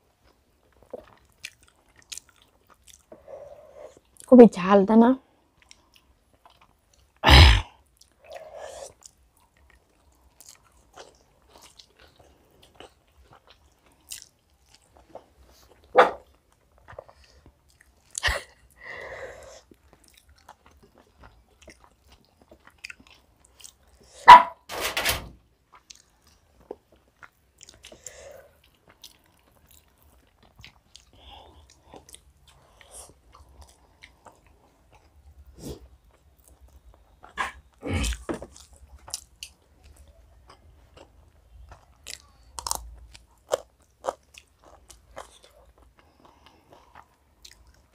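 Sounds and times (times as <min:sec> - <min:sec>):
chewing and mouth sounds: 0:00.1 - 0:04.3, 0:05.4 - 0:07.2, 0:07.8 - 0:24.2, 0:25.6 - 0:47.9.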